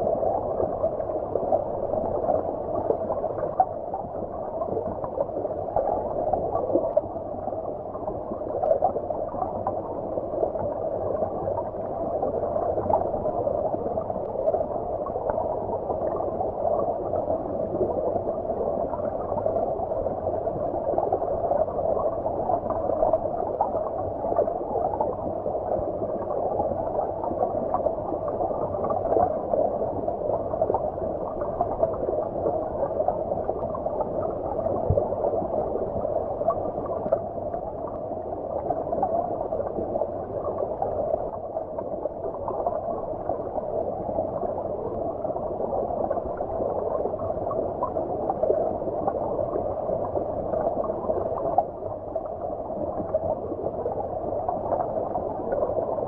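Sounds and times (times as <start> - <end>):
muffled underwater stream wash: 0.0 - 56.0
small bubbling sounds: 0.0 - 56.0.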